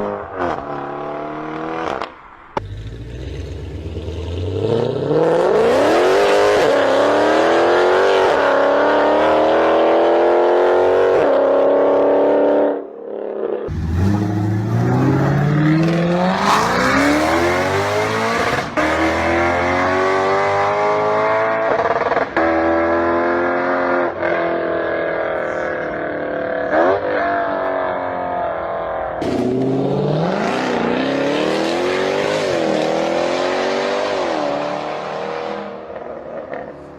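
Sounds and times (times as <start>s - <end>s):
car engines accelerating hard: 0.0s - 12.8s, 13.6s - 36.9s.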